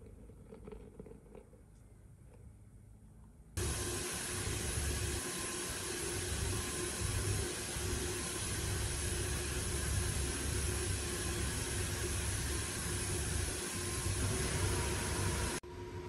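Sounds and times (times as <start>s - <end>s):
low fan hum: 2.9s - 16.0s.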